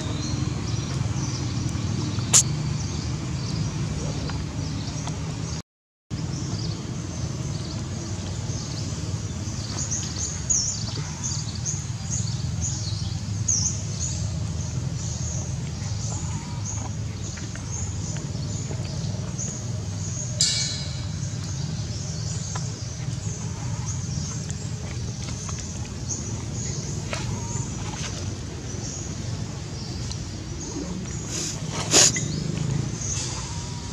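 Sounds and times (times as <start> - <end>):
birds chirping: 0.0 - 5.6, 6.2 - 33.9.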